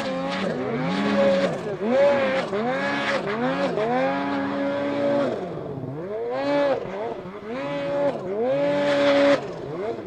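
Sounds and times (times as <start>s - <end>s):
snowmobile engine revving: 0.0s - 10.0s.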